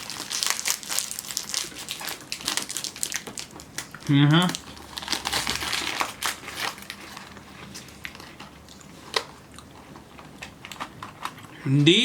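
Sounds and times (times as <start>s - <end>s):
crunching and chewing cookies: 0.0s - 11.9s.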